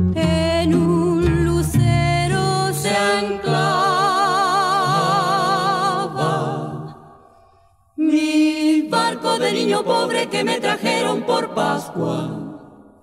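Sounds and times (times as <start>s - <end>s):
voices singing with vibrato: 0.2s - 13.0s.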